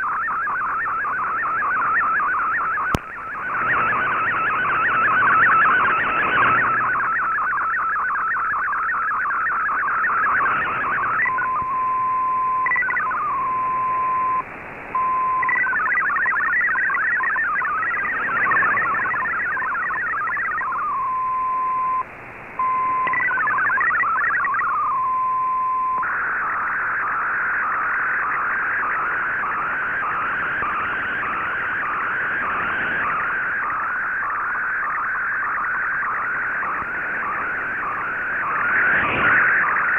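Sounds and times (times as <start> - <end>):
warbling digital data tones: 0.0 - 14.4, 15.0 - 39.9
radio hiss: 0.0 - 39.9
steady data tone: 0.0 - 39.9.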